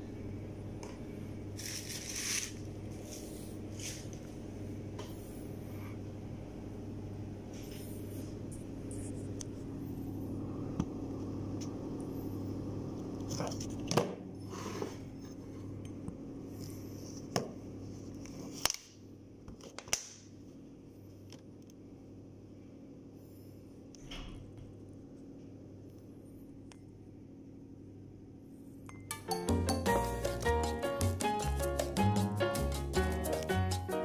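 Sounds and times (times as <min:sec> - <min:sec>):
steady low hum: 0:00.0 - 0:29.2.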